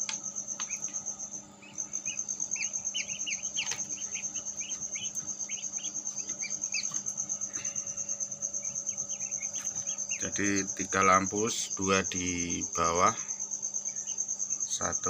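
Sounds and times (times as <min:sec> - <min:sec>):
cricket chirping: 0:00.0 - 0:15.0
low fan hum: 0:00.0 - 0:15.0.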